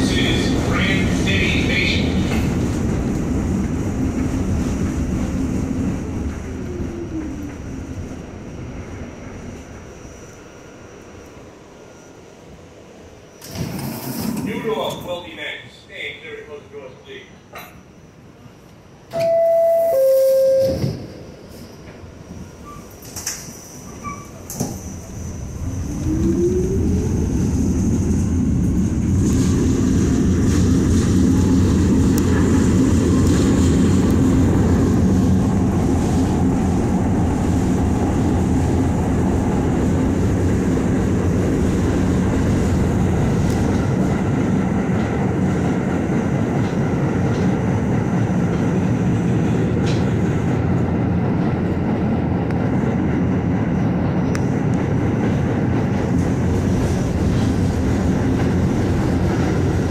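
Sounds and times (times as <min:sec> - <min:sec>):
train wheels rumbling on rail: 0:00.0 - 0:15.6, 0:20.4 - 0:59.9.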